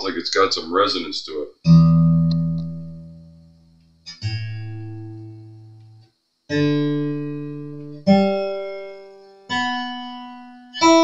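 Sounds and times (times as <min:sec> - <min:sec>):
acoustic guitar single notes plucked: 0:01.6 - 0:11.0.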